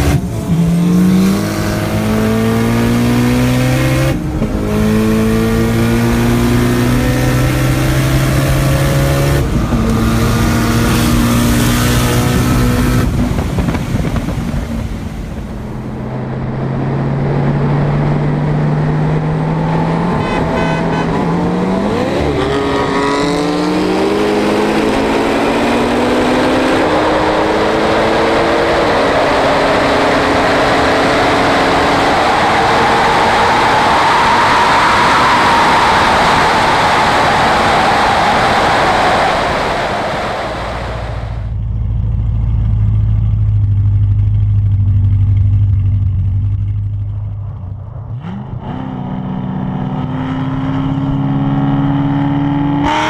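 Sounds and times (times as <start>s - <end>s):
car engine revving through gears: 0.0s - 41.5s, 48.1s - 53.0s
wind and road noise: 0.0s - 53.0s.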